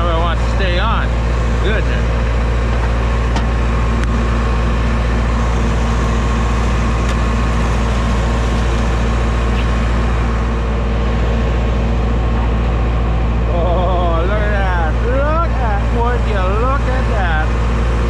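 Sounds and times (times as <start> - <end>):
mechanical drone: 0.0 - 18.0.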